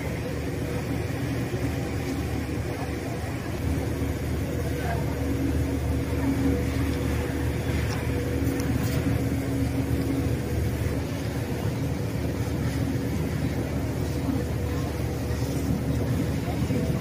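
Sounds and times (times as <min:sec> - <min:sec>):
faint crowd chatter: 0:00.0 - 0:17.0
mechanical hum: 0:00.0 - 0:17.0.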